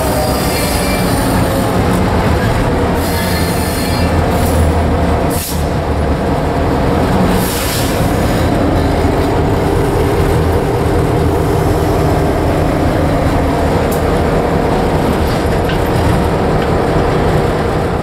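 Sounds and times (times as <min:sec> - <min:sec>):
locomotive engine rumble: 0:00.0 - 0:18.0.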